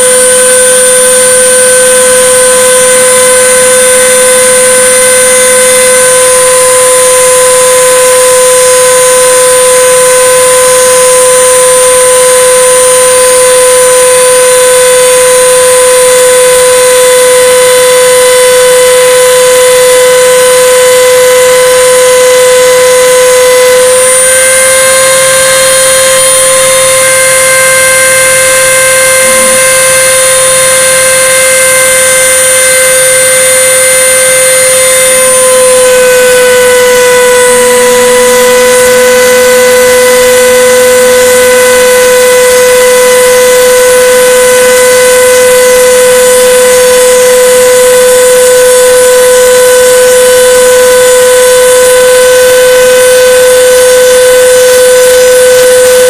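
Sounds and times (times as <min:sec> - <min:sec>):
router spindle whining: 0:00.0 - 0:56.0.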